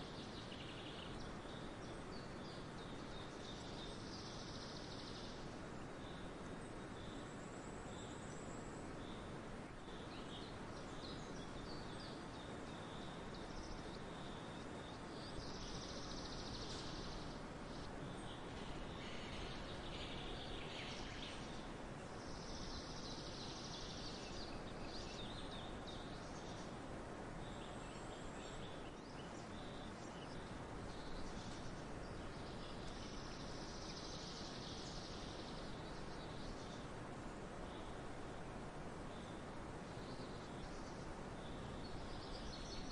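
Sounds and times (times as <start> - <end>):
faint outdoor background noise: 0.0 - 42.9.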